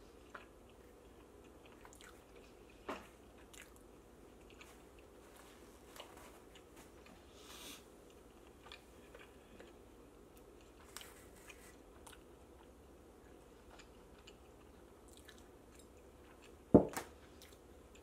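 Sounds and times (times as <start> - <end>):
chewing pizza: 0.0 - 7.3, 8.0 - 18.0.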